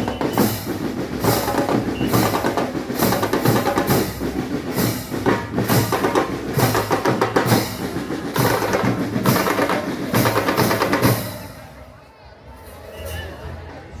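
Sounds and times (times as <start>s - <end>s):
band playing music: 0.0s - 11.8s
loud drums beating: 0.0s - 11.9s.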